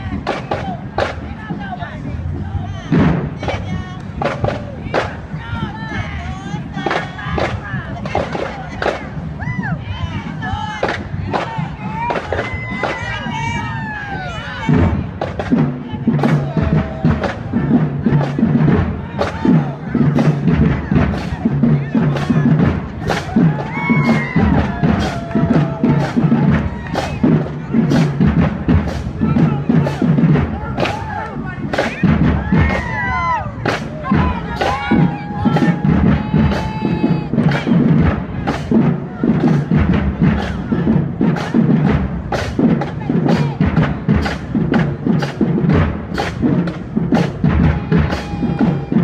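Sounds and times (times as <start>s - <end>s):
people shouting: 0.0s - 15.2s, 15.8s - 28.1s, 29.1s - 41.6s, 42.9s - 44.3s, 47.2s - 49.0s
drumline pounding a steady beat: 0.0s - 49.0s
marching band playing: 0.0s - 49.0s.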